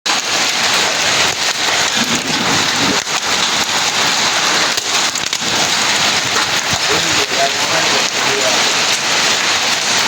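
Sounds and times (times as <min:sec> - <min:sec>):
hailstones clattering: 0:00.1 - 0:10.0
heavy rain downpour: 0:00.1 - 0:10.0.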